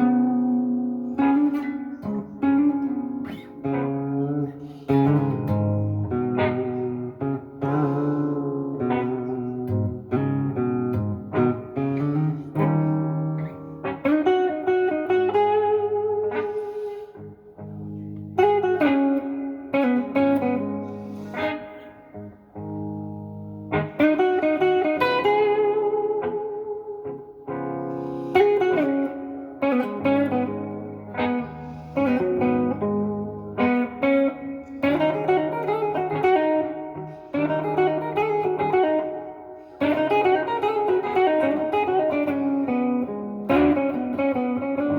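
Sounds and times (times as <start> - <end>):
overdriven electric guitar blues lead: 0.0 - 44.9.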